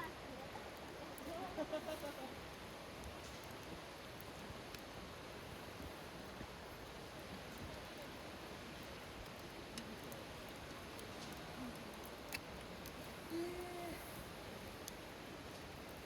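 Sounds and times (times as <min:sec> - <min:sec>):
campfire hissing: 0:00.0 - 0:16.0
fire crackles and pops: 0:00.0 - 0:16.0.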